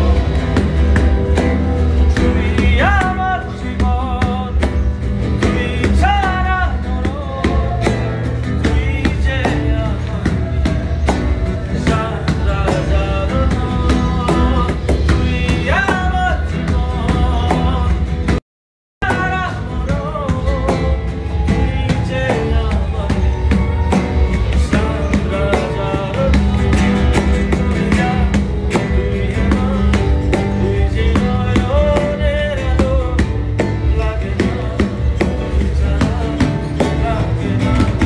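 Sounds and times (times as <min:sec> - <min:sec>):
nylon-string guitar strumming: 0:00.0 - 0:18.4, 0:19.0 - 0:38.0
person singing: 0:00.0 - 0:18.4, 0:19.0 - 0:38.0.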